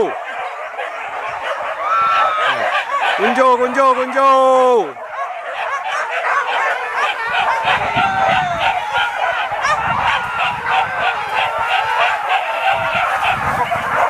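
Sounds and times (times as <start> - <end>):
dogs yelping and baying: 0.0 - 14.0.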